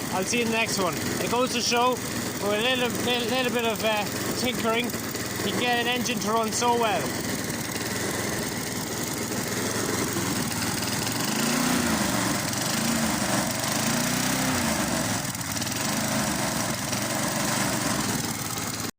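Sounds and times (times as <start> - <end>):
lawn mower engine running: 0.0 - 18.9.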